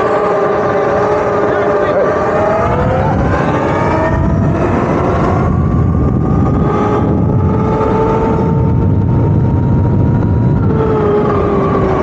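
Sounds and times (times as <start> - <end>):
electric motor whine: 0.0 - 12.0
wind rumble on microphone: 0.0 - 12.0.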